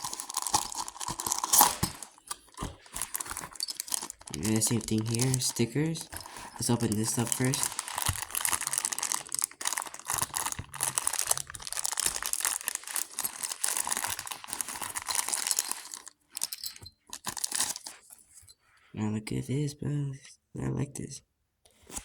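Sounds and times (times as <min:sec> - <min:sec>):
packaging crinkling and tearing: 0:00.0 - 0:18.1.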